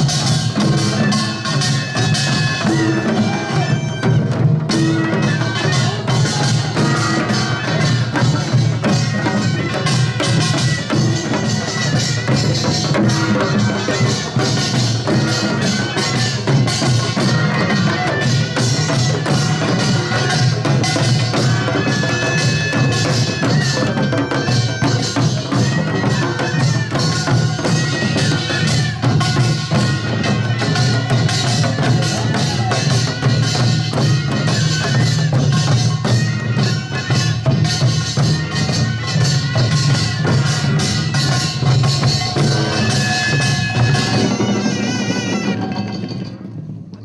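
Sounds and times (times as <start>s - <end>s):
held high notes: 0.0s - 46.6s
gongs and drums in fast rhythm: 0.0s - 47.0s.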